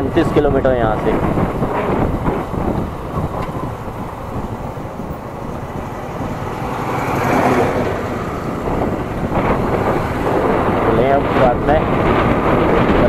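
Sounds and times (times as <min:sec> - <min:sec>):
wind rumbling on microphone: 0:00.0 - 0:13.0
motorcycle engine: 0:00.9 - 0:13.0.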